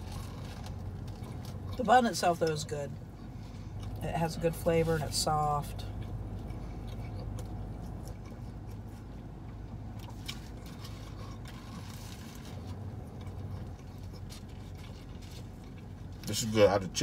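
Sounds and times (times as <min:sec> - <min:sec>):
car interior hum: 0:00.0 - 0:17.0.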